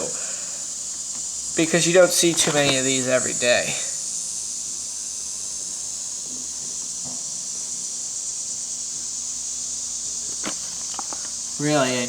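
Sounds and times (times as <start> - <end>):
high-pitched background hiss: 0.0 - 12.0.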